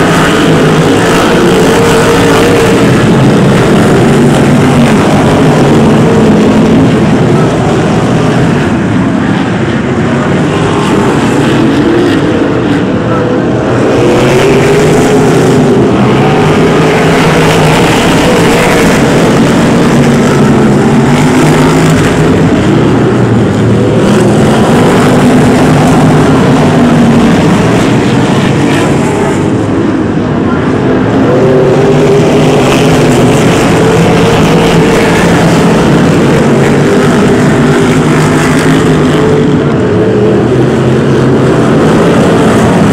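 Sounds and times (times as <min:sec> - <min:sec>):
race car engines running hard: 0:00.0 - 0:42.9.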